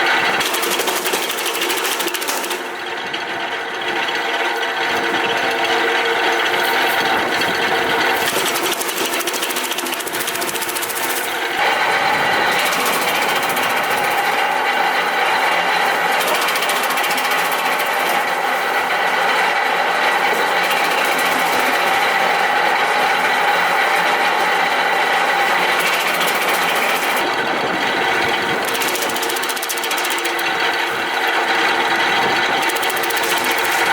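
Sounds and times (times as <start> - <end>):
electric wood chipper running: 0.0 - 33.9.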